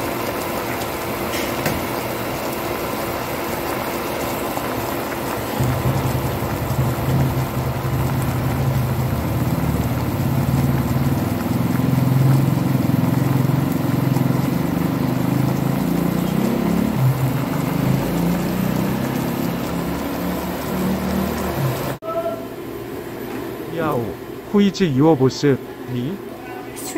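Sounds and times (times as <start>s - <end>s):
water boiling in frying pan: 0.0s - 22.0s.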